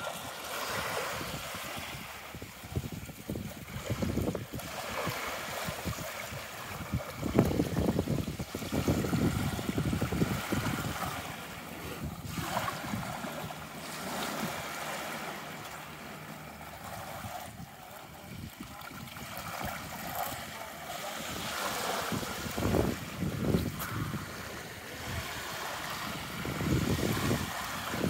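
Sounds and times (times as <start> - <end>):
wind on microphone: 0.0 - 15.7, 16.6 - 28.0
small waves washing onto beach: 0.0 - 28.0.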